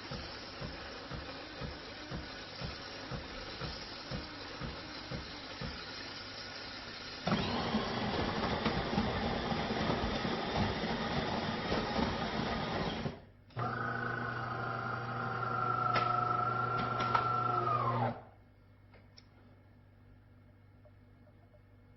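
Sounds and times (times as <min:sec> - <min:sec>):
espresso machine humming: 0:00.0 - 0:18.2.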